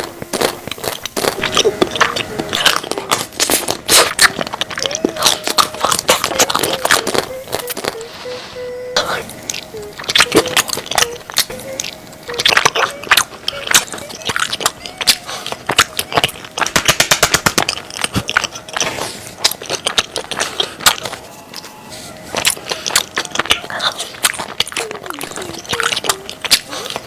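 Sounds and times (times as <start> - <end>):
crunchy bites and chewing: 0.0 - 8.1, 9.0 - 27.0.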